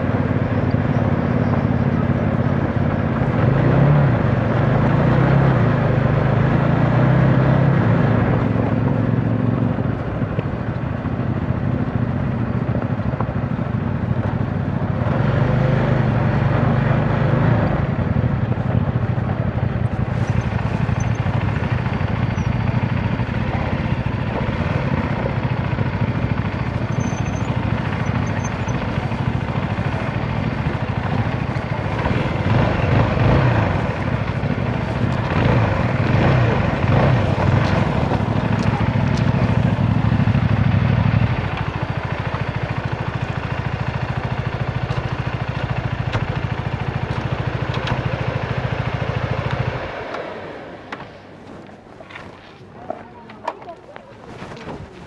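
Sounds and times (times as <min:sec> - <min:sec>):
motorcycle engine riding: 0:00.0 - 0:55.0.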